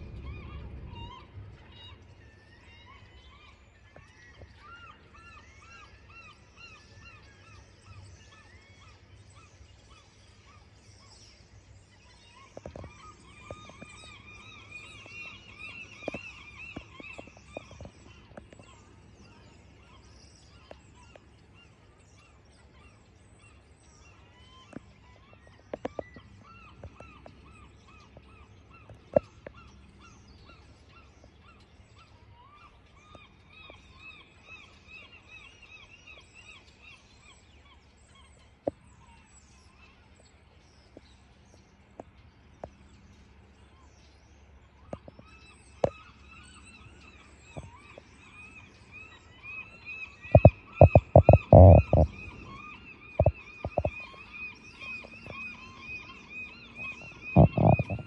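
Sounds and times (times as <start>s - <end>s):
birds calling: 0.0s - 58.0s
low steady hum: 0.0s - 58.0s.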